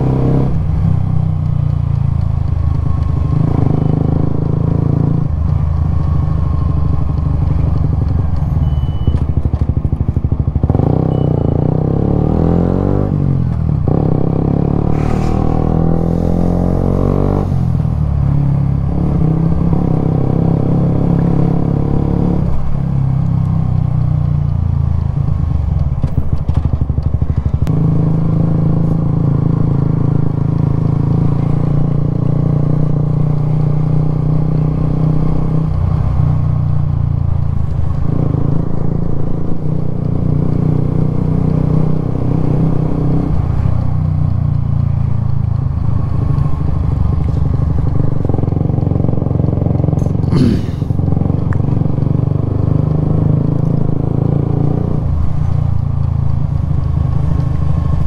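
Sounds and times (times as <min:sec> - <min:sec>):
motorcycle engine running: 0:00.0 - 0:20.7, 0:22.6 - 0:58.0.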